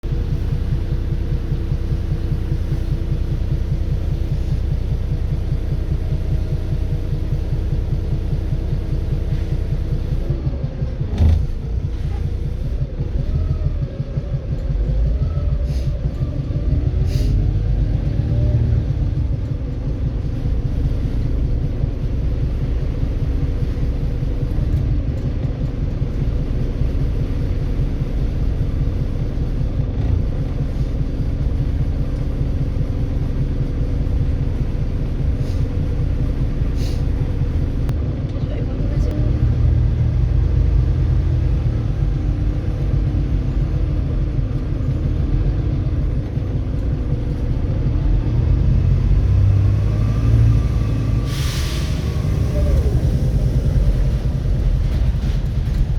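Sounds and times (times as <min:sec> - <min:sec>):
diesel bus engine knocking: 0:00.0 - 0:55.9.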